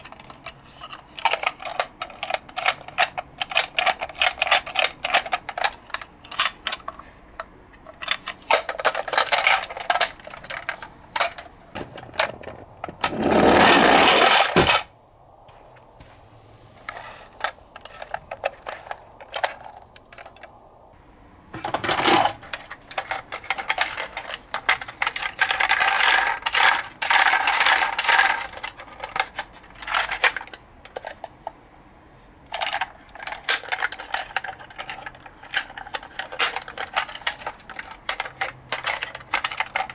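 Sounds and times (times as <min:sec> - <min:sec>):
plastic clattering on cardboard: 0:00.0 - 0:14.9, 0:16.8 - 0:20.5, 0:21.5 - 0:31.5, 0:32.5 - 0:39.9.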